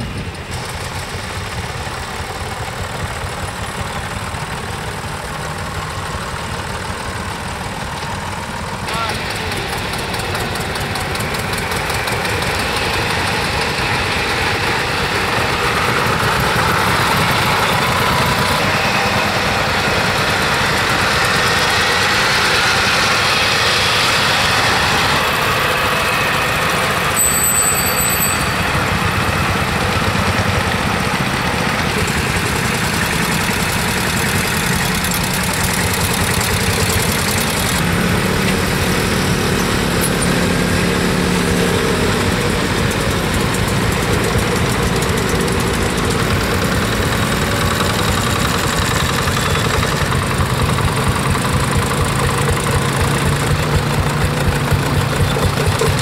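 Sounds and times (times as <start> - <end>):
tractor diesel engines running: 0.0 - 56.0.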